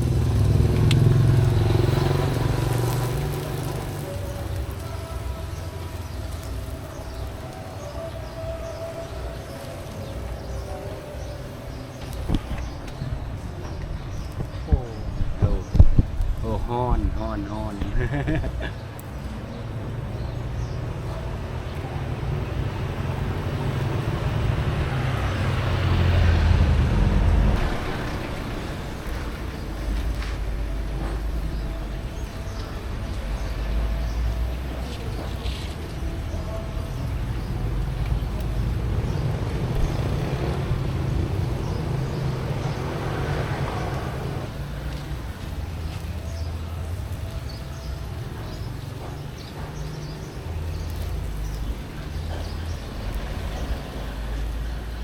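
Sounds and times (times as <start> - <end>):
low engine rumble of traffic: 0.0 - 55.0
motor vehicle passing: 0.0 - 55.0.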